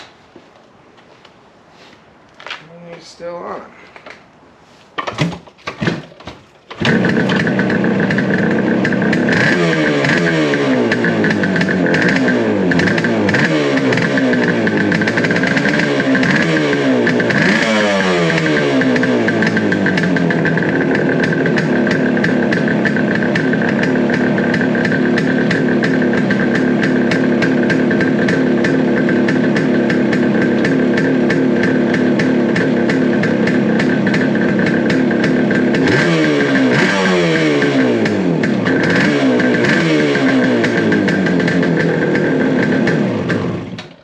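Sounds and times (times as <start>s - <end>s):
motorcycle engine idling and revving: 6.7s - 44.0s.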